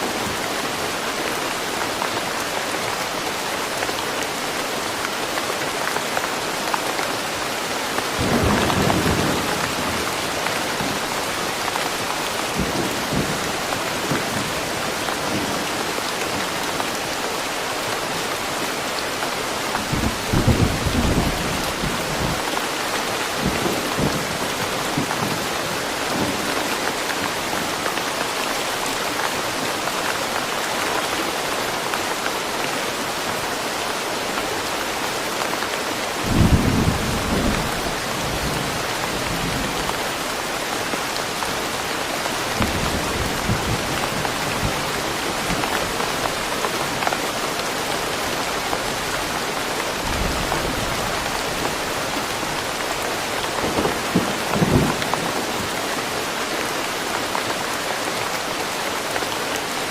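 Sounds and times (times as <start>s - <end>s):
steady rain in a forest: 0.0s - 59.9s.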